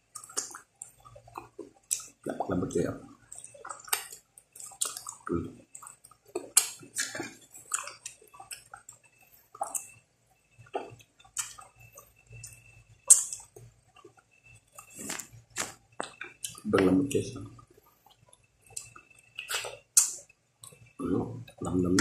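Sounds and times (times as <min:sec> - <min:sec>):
person chewing and sucking wetly: 0:00.0 - 0:02.5, 0:03.1 - 0:22.0
lip smacks and clicks: 0:00.1 - 0:02.2, 0:03.3 - 0:10.0, 0:10.7 - 0:16.9, 0:18.1 - 0:22.0.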